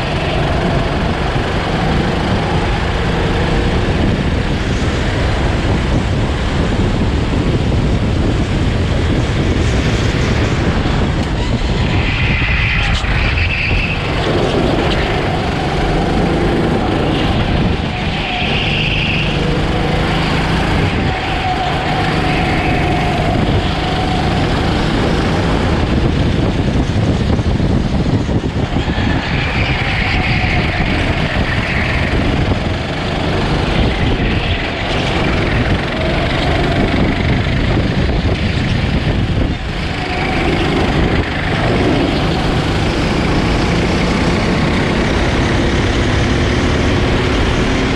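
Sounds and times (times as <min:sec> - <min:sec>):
go-kart engine running hard: 0:00.0 - 0:47.9
wind and road noise: 0:00.0 - 0:47.9.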